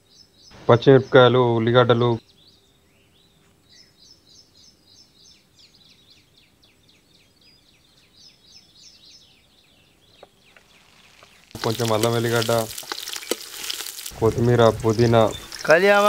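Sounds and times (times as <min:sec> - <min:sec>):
faint bird chirping: 0:00.0 - 0:13.5, 0:14.2 - 0:16.0.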